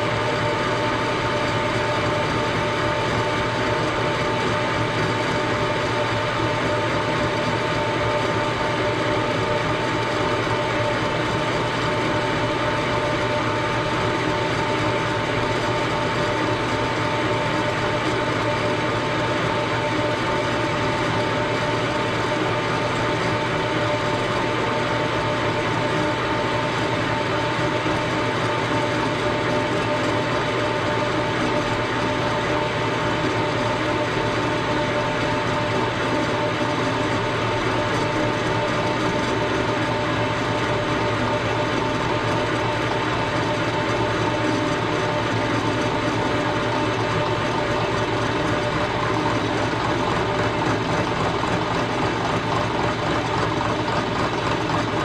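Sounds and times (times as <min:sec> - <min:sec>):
steady machine whine: 0:00.0 - 0:55.0.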